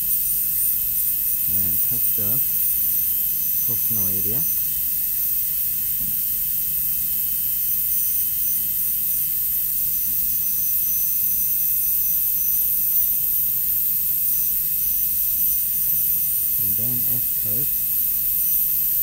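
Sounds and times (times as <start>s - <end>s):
dental drill whining: 0.0s - 19.0s.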